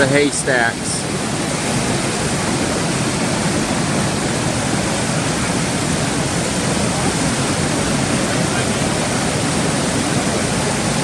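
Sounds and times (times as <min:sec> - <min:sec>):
creek rushing over rapids: 0:00.0 - 0:11.0.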